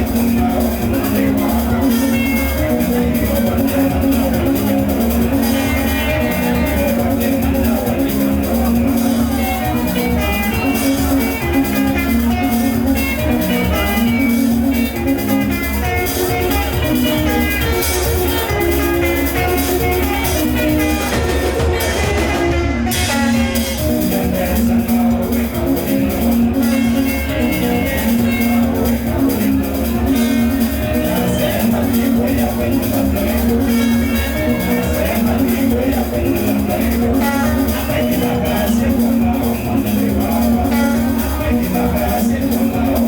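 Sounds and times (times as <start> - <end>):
live band music: 0.0 - 43.0
plucked electric guitar: 0.0 - 43.0.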